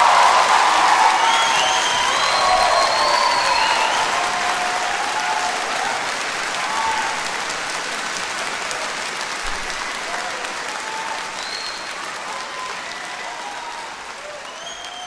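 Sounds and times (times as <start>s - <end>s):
concert audience applauding: 0.0s - 15.0s.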